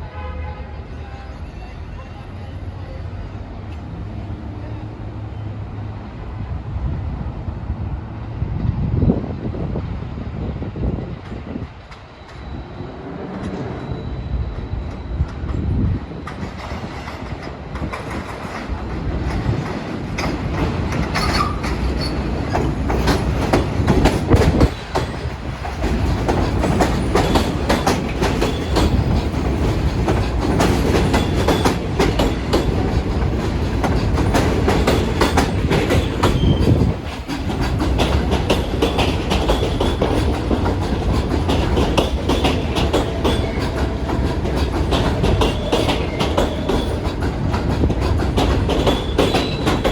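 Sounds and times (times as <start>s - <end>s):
subway train wheels clattering: 0.0s - 49.9s.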